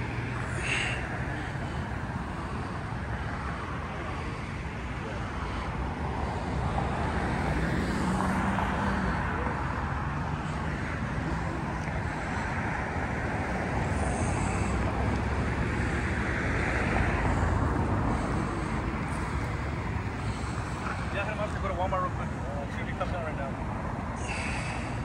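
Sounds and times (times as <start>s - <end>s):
passing cars rushing: 0.0s - 25.0s.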